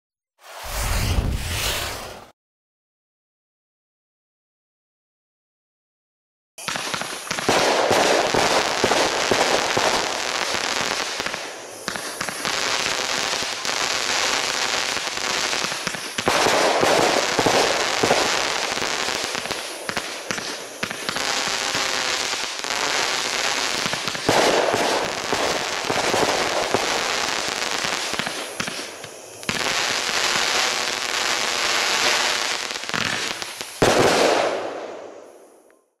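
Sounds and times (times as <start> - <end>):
firework cake crackling: 6.6 - 35.8.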